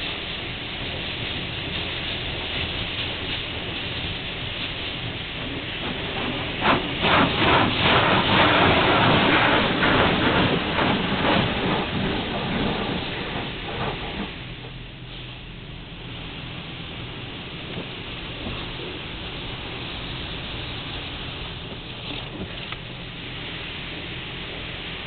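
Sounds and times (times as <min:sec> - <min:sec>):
car wash spraying water: 0:00.0 - 0:25.0.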